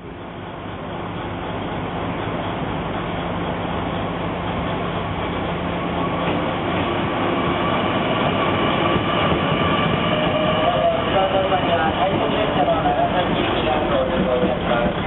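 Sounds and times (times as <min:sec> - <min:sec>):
diesel railcar engine humming: 0:00.0 - 0:15.0.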